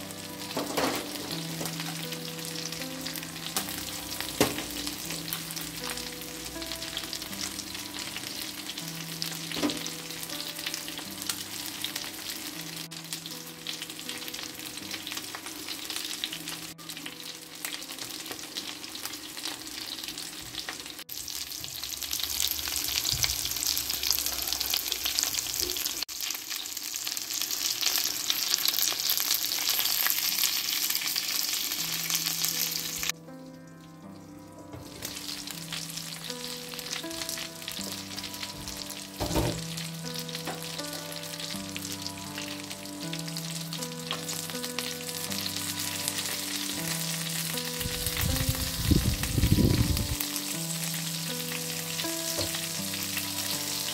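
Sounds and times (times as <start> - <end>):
food sizzling in hot oil: 0.0 - 33.2, 33.8 - 53.9.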